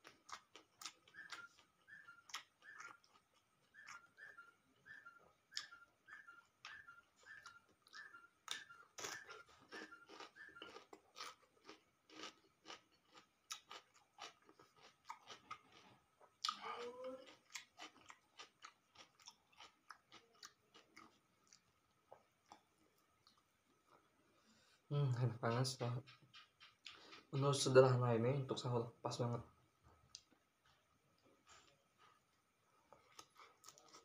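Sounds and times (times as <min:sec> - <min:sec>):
person chewing crunchy food: 0:00.0 - 0:24.0, 0:30.1 - 0:34.0.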